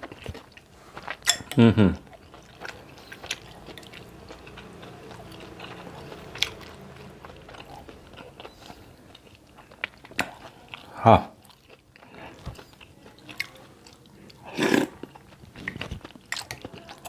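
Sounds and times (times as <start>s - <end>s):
person chewing soft food: 0.0s - 17.0s.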